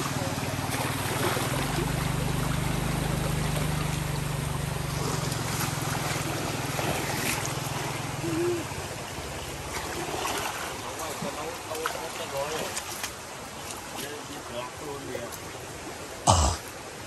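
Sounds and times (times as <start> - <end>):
splashes of wading: 0.0 - 17.0
stream water rushing: 0.0 - 17.0.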